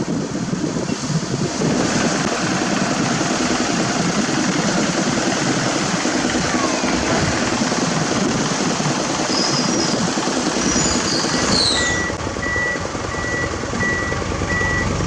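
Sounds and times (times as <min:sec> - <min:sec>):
diesel engines of paving machinery: 0:00.1 - 0:15.0.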